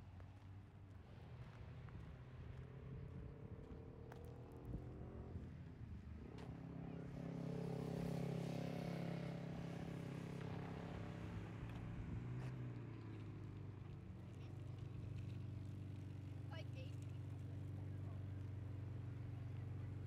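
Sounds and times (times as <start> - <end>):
motor vehicle passing: 2.9 - 20.0.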